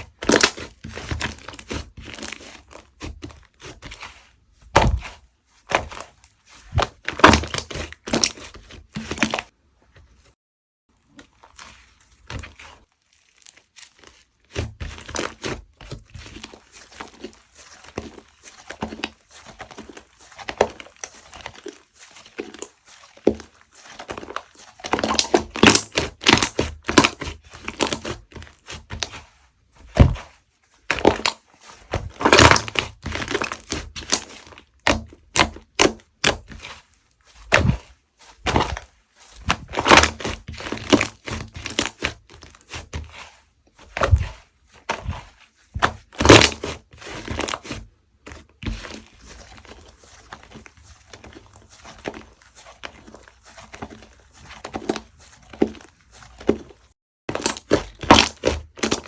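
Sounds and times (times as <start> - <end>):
hands squishing slime: 0.0 - 9.5, 11.0 - 59.0.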